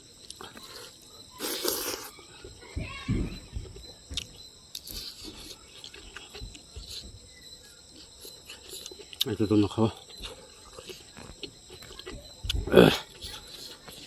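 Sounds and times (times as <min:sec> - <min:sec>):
chewing and mouth noises: 0:00.0 - 0:02.6, 0:03.7 - 0:14.0.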